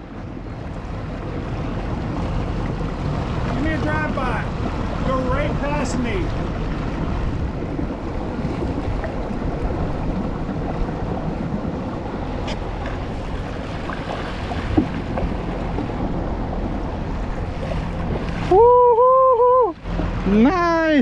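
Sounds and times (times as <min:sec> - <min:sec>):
wind noise on microphone: 0:00.0 - 0:20.4
motor kayak passing: 0:00.0 - 0:21.0
water rushing and sloshing: 0:00.0 - 0:21.0.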